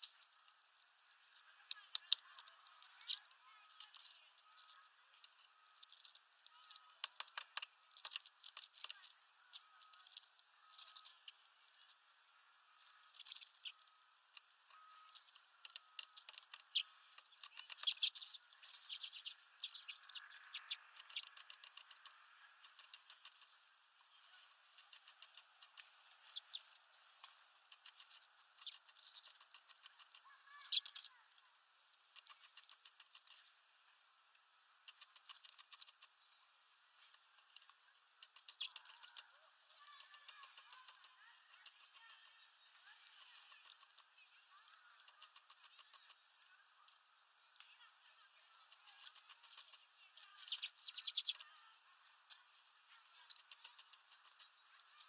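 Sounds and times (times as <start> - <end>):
birds pecking seed: 0.0 - 55.0.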